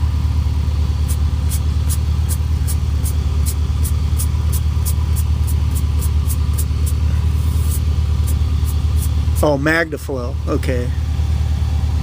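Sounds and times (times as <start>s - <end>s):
car engine idling: 0.0s - 12.0s
deep exhaust rumble: 0.0s - 12.0s.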